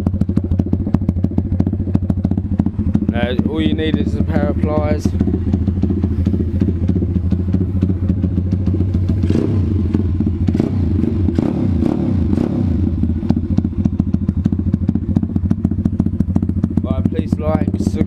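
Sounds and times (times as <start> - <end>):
motorbike engine idling: 0.0 - 18.0.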